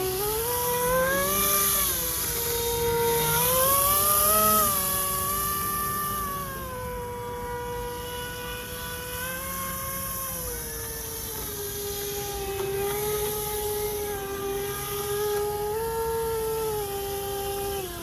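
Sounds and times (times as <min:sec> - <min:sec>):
electric motor propeller whine: 0:00.0 - 0:18.0.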